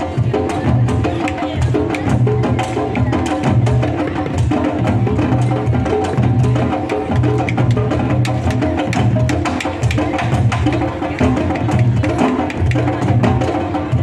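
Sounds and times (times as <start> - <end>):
drum ensemble playing: 0.0 - 14.0.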